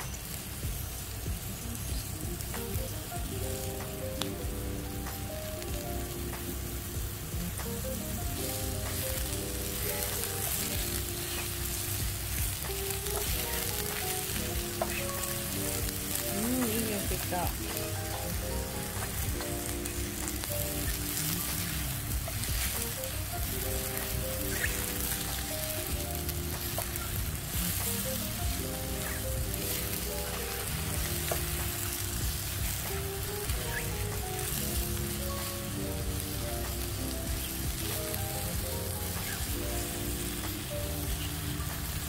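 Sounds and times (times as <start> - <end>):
background music: 0.0 - 42.0
mushrooms sizzling in a frying pan: 0.0 - 42.0.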